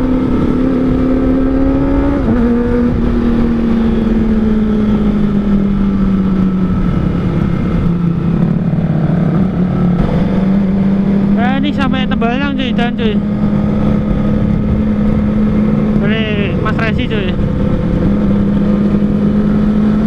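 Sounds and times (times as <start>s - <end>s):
motorcycle engine at high revs: 0.0s - 20.0s
wind rush: 0.0s - 20.0s.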